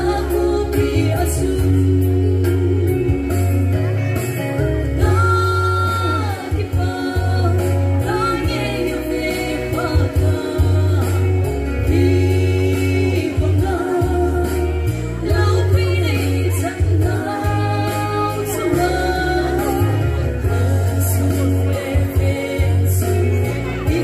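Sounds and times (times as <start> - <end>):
instrumental accompaniment with bass: 0.0 - 24.0
woman singing into microphone: 0.0 - 24.0.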